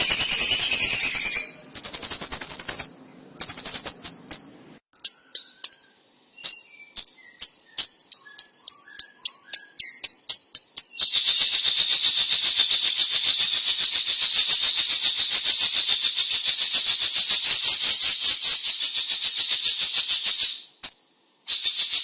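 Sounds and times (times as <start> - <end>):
songbird rattling trill: 0.0 - 22.0.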